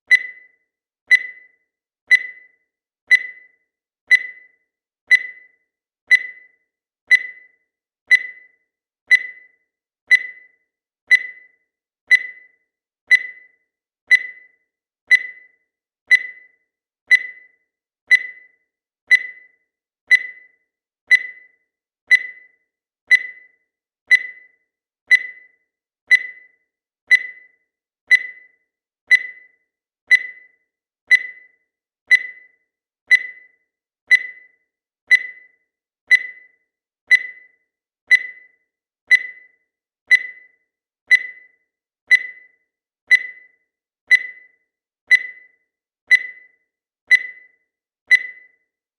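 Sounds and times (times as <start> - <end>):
digital timer beeping: 0.0 - 48.9.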